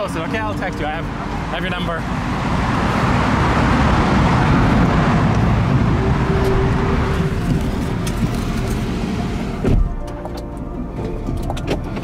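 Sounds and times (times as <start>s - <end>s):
loud freeway traffic: 0.0s - 12.0s.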